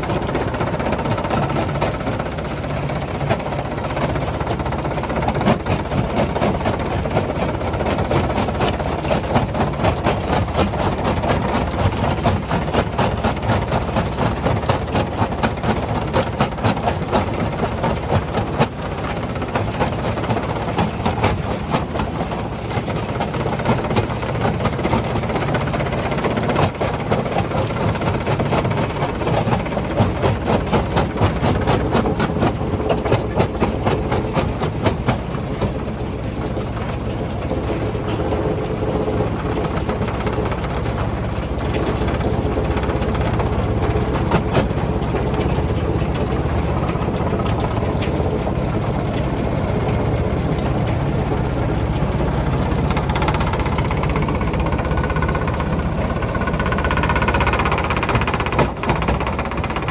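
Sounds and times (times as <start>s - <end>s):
rapid clatter of rock: 0.0s - 59.9s
stone crushing machinery rumble: 0.0s - 59.9s.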